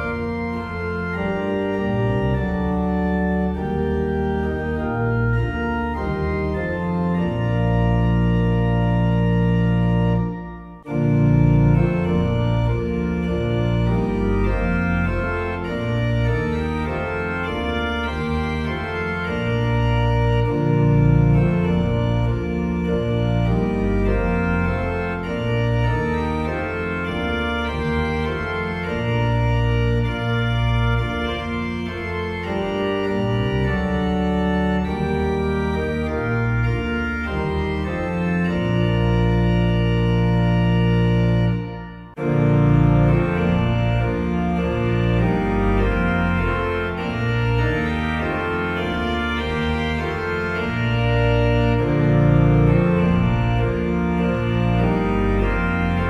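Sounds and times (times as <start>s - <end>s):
organ playing held chords: 0.0s - 56.0s.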